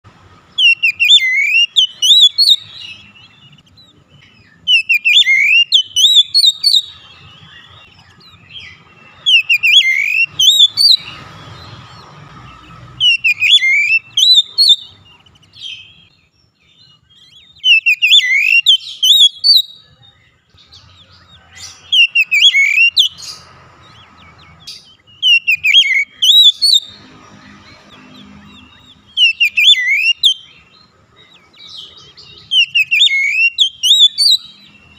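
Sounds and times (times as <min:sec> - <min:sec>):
bird whistling song: 0:00.5 - 0:34.9.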